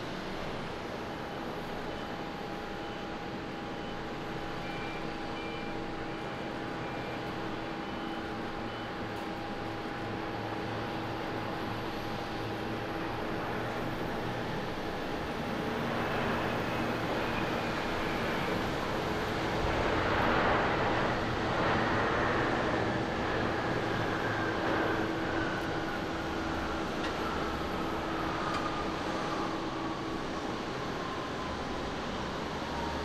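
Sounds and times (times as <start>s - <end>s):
jet engines reverse thrust: 0.0s - 33.0s.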